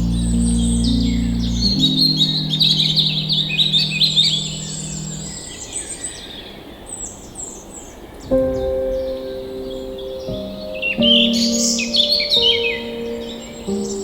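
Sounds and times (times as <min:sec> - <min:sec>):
low sustained musical tones: 0:00.0 - 0:05.8, 0:08.4 - 0:14.0
songbirds chirping and twittering: 0:00.0 - 0:14.0.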